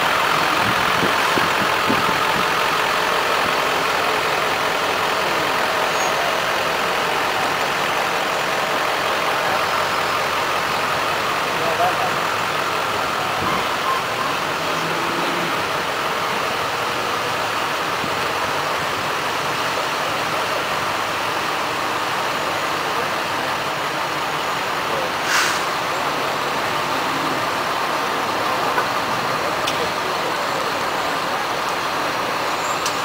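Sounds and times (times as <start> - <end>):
street and crowd noise: 0.0 - 33.0
truck engines running slowly: 0.0 - 33.0.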